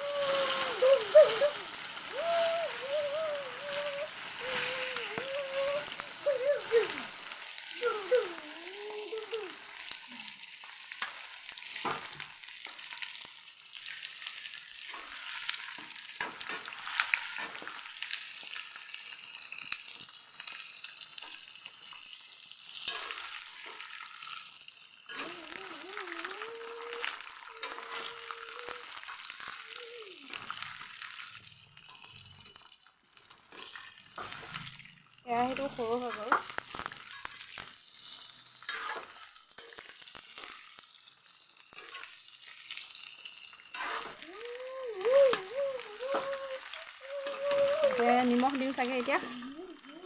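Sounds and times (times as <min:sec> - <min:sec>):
fruit frying in hot oil: 0:00.0 - 0:50.0
oil crackling and popping: 0:00.0 - 0:50.0.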